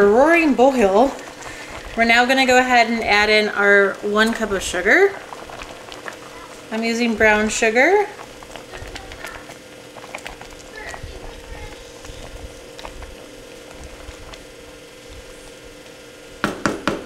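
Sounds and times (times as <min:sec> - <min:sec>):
wooden spoon stirring: 0:00.0 - 0:16.3
jam boiling and popping: 0:00.0 - 0:17.0
steady low hum: 0:00.0 - 0:17.0.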